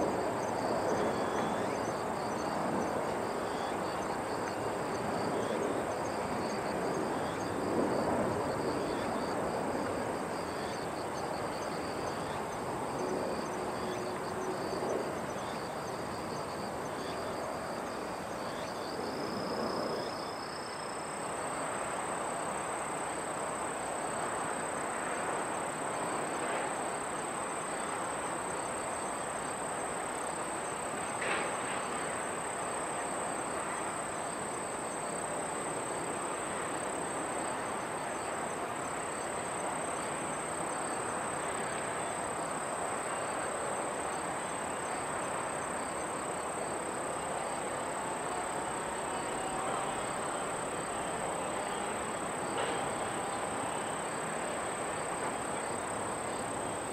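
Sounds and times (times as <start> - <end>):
background hiss: 0.0 - 56.9
insects chirping: 0.0 - 56.9.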